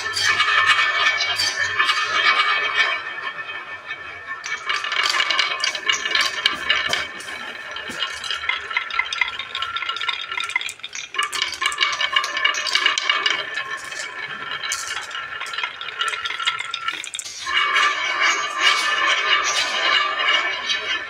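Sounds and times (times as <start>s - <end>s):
marbles rolling and clattering: 0.0s - 21.0s.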